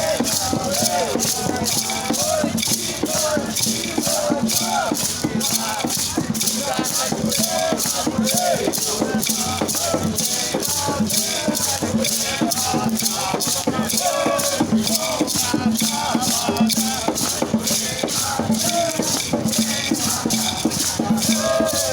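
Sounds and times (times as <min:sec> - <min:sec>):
rattles shaken: 0:00.0 - 0:21.9
voices singing a chant: 0:00.0 - 0:21.9.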